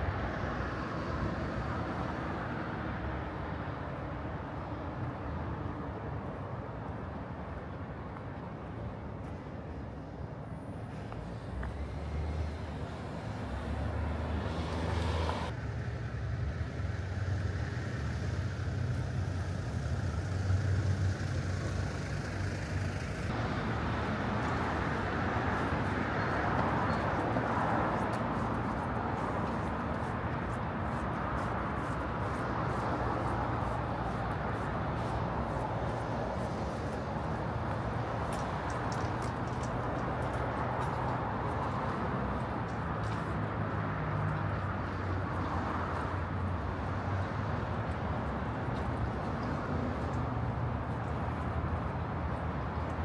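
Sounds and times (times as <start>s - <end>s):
cars and trucks passing: 0.0s - 53.0s.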